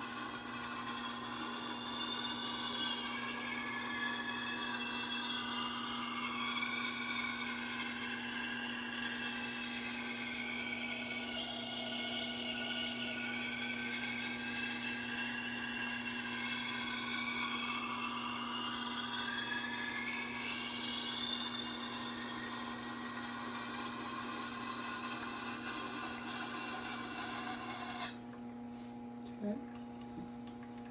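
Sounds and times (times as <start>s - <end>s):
sharpening stone on knife blade: 0.0s - 28.2s.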